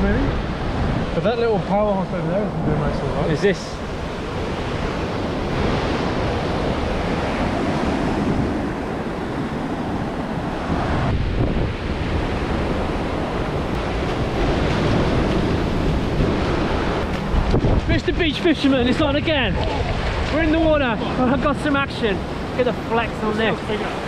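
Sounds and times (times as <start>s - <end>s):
ocean surf breaking on beach: 0.0s - 24.0s
wind buffeting microphone: 0.0s - 24.0s.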